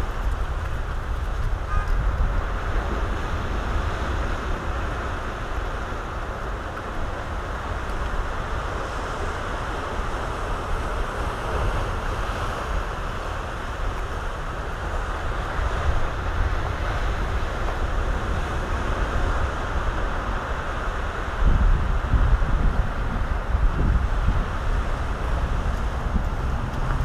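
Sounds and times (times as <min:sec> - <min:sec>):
ocean surf breaking on rocks: 0:00.0 - 0:27.0
wind rumbling on microphone: 0:00.0 - 0:27.0.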